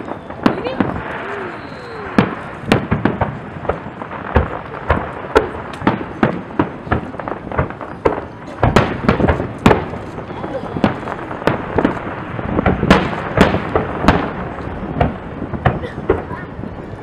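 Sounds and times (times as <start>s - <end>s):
firework shells bursting: 0.0s - 16.9s.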